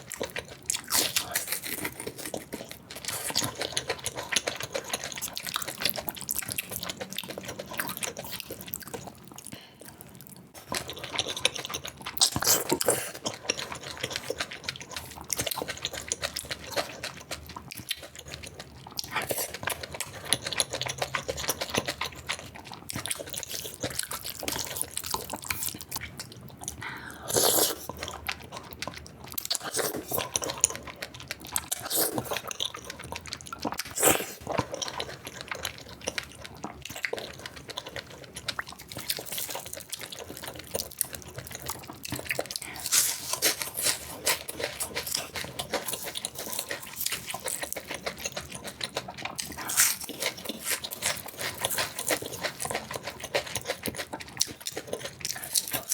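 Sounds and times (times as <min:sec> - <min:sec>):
wet chewing and lip smacks: 0:00.0 - 0:55.9.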